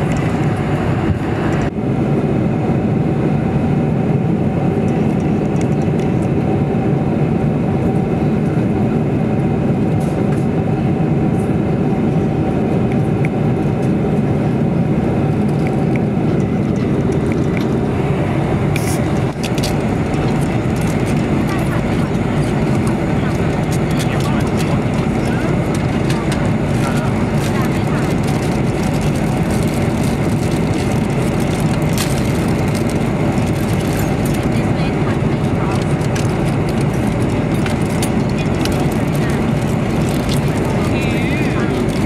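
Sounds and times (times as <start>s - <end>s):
aircraft cabin engine rush: 0.0s - 42.0s.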